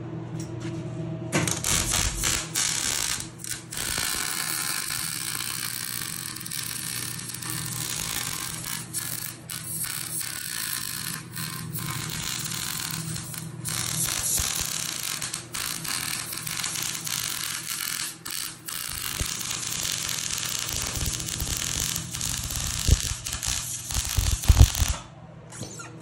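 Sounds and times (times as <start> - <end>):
welding arc crackling: 1.4 - 25.1.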